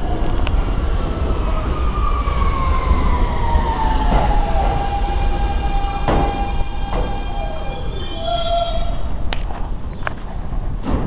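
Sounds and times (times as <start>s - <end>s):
wheels rumbling on rails: 0.0s - 11.0s
train traction motors whining: 0.2s - 9.2s.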